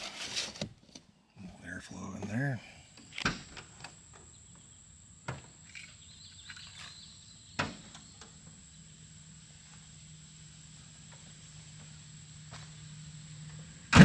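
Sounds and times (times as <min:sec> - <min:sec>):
crickets trilling: 0:01.4 - 0:14.0.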